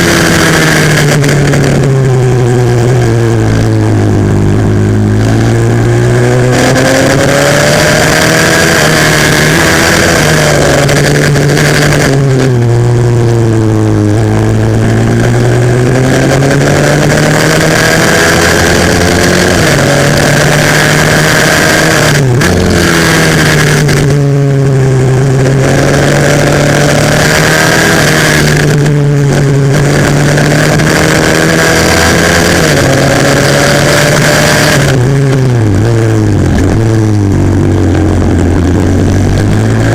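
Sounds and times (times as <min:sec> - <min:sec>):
pit bike engine at racing revs: 0:00.0 - 0:39.9.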